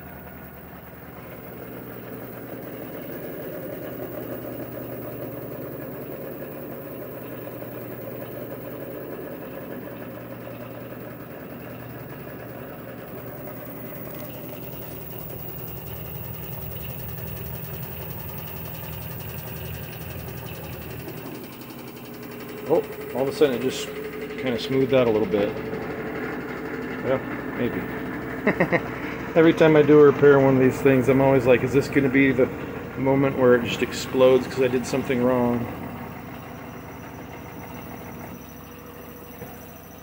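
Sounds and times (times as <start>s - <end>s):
washer-dryer drum spinning: 0.0s - 40.0s.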